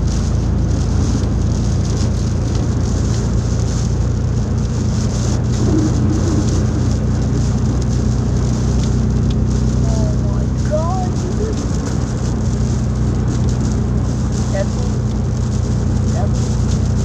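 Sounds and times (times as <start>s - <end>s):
car engine low hum: 0.0s - 17.0s
heavy rain on car roof: 0.0s - 17.0s.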